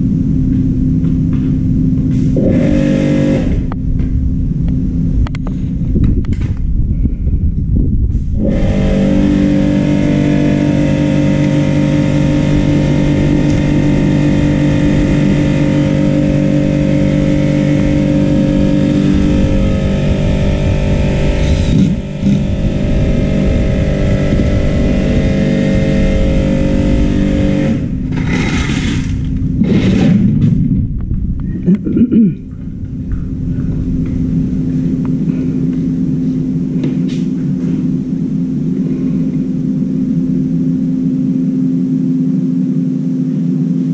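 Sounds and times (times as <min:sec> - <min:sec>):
low rumble: 0:00.0 - 0:43.9
motor humming: 0:08.4 - 0:43.9.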